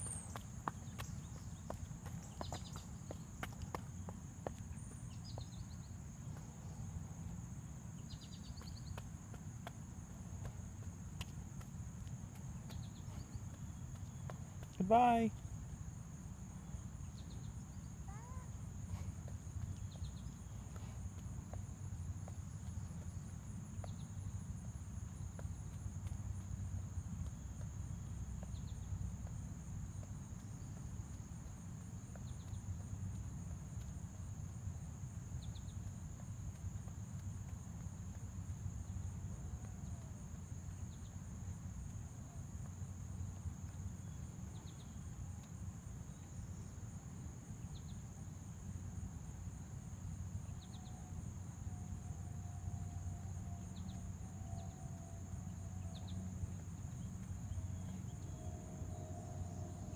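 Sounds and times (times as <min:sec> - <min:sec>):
crickets droning: 0:00.0 - 0:59.9
faint low hum: 0:00.0 - 0:59.9.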